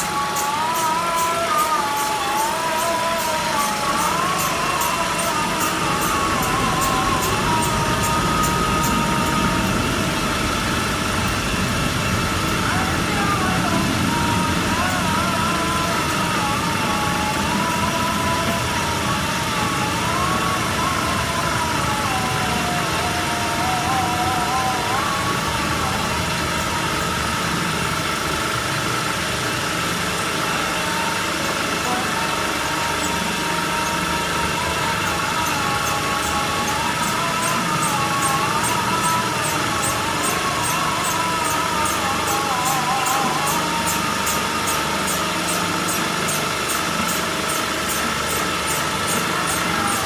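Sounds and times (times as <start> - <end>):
cutting machine running with whine: 0.0 - 50.0.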